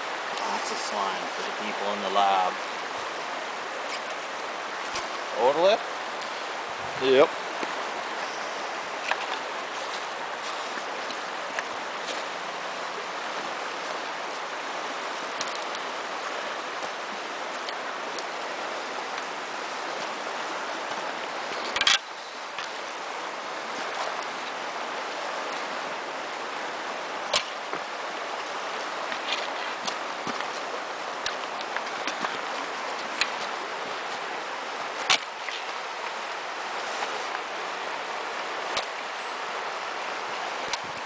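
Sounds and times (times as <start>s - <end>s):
flowing river water: 0.0s - 41.0s.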